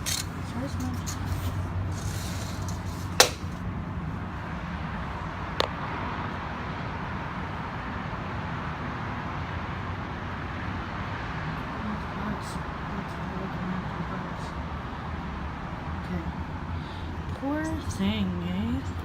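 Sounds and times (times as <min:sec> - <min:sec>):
distant traffic: 0:00.0 - 0:19.0.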